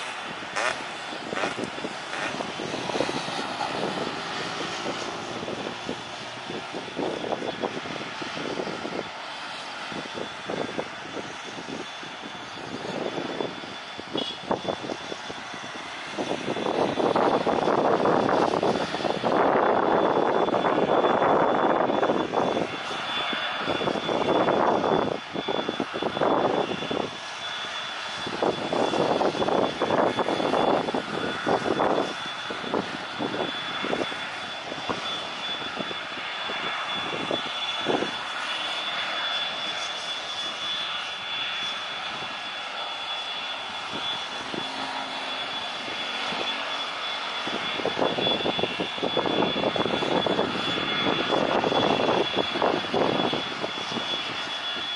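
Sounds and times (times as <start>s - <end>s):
jet engine roar: 0.0s - 54.9s
jet engines whining: 0.0s - 54.9s.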